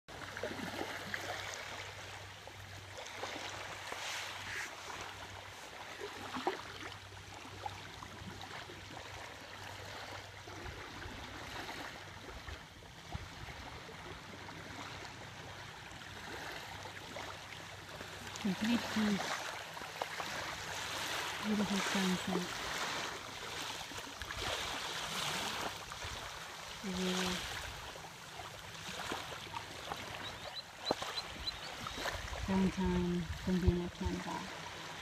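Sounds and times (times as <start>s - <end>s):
faint water trickling and splashing: 0.1s - 35.0s
small waves lapping on shore: 0.1s - 35.0s.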